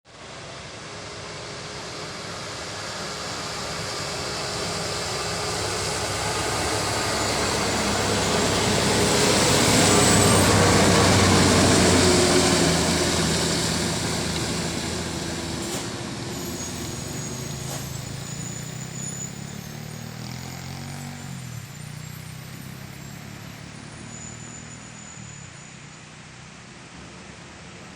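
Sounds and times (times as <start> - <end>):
heavy truck driving past: 0.1 - 27.9
quiet engine running: 0.2 - 27.9
wet tyre hiss: 0.4 - 27.9.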